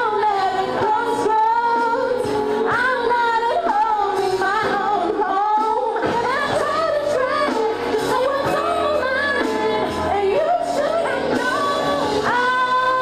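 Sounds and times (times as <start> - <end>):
woman singing into microphone: 0.0 - 13.0.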